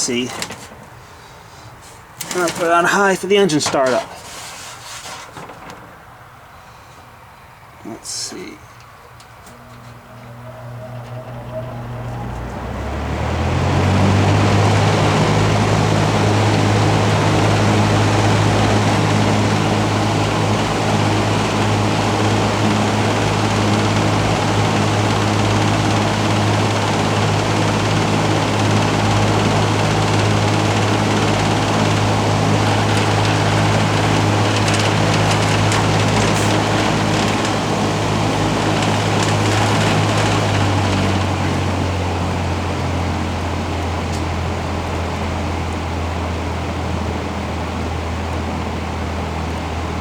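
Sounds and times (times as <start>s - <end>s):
fan motor hum: 0.0s - 50.0s
rush of air from fan: 9.5s - 50.0s.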